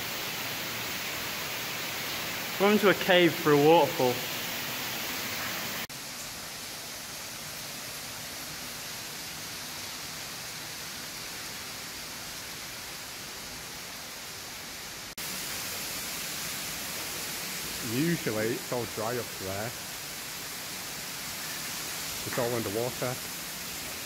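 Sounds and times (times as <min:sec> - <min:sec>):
floodwater rushing: 0:00.0 - 0:11.6, 0:15.2 - 0:24.0.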